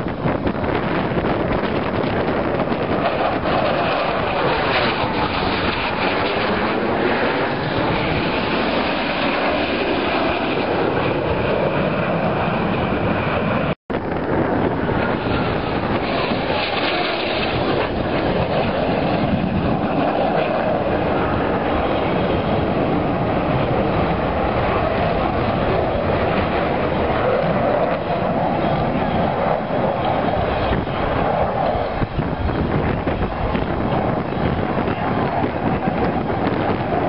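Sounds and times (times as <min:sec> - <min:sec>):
jet fighter flying past: 0:00.0 - 0:37.0.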